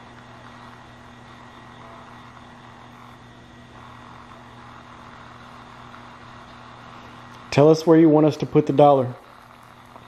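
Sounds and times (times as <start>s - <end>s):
low electrical hum: 0.0s - 10.0s
steady hiss: 0.0s - 10.0s.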